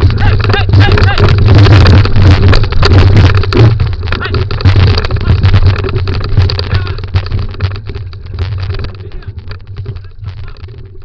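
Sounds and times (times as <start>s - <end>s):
wheels rattling and crunching: 0.0s - 11.0s
wind rumble on microphone: 0.0s - 11.0s.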